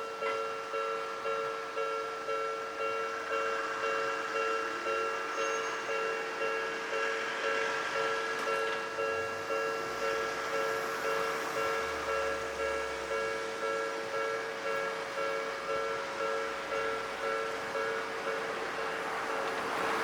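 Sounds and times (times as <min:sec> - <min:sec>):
level crossing alarm bell: 0:00.0 - 0:20.0.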